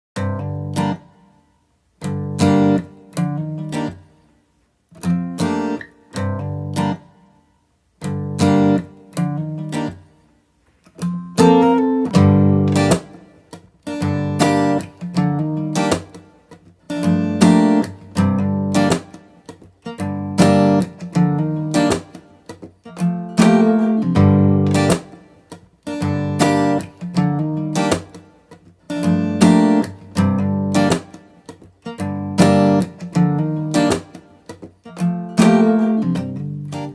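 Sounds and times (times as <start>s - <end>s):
acoustic guitar strumming: 0.2s - 36.9s.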